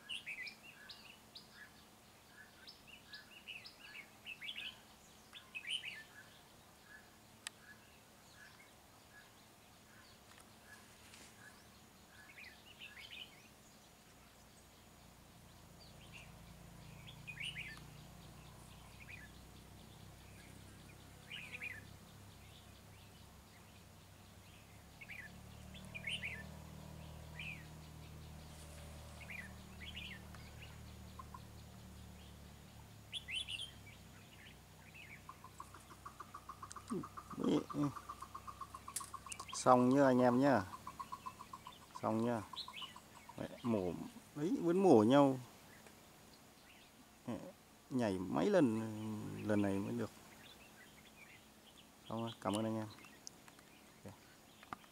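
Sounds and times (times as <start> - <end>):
bird chirping calls: 0.0 - 54.9.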